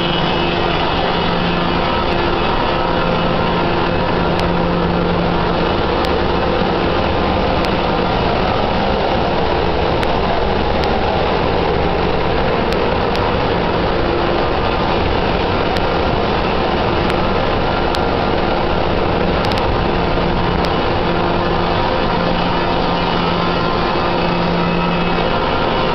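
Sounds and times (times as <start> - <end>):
engine room machinery din: 0.0 - 25.9.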